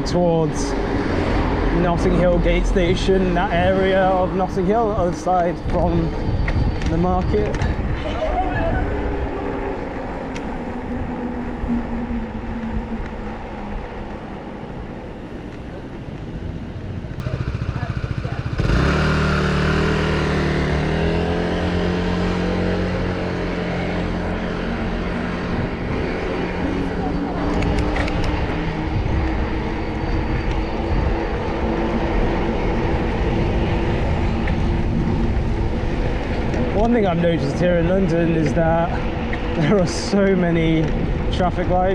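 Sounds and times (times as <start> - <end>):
road and passing traffic: 0.0 - 41.9
vehicle engine humming: 0.0 - 41.9.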